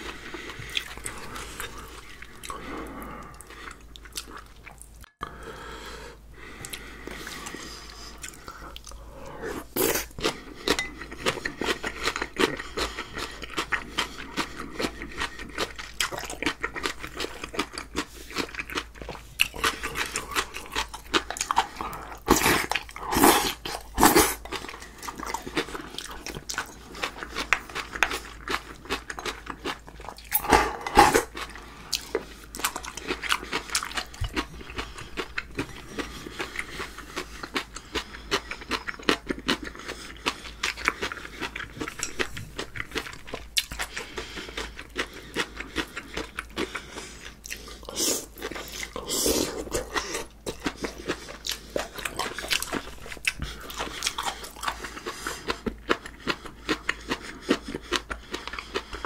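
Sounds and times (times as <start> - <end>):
man chewing and slurping: 0.0 - 59.0.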